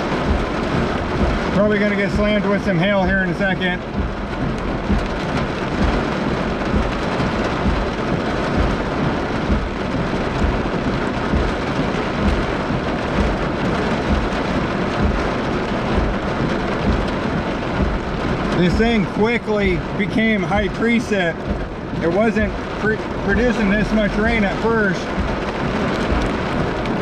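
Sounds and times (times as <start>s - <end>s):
heavy rain on car roof: 0.0s - 27.0s.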